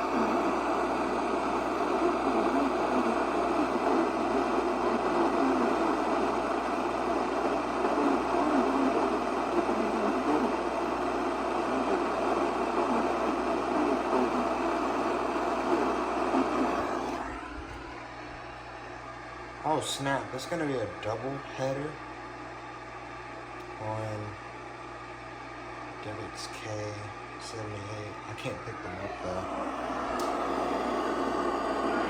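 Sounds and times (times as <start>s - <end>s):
radio static hiss: 0.0s - 18.7s, 19.6s - 22.1s, 23.6s - 24.9s, 25.9s - 32.0s.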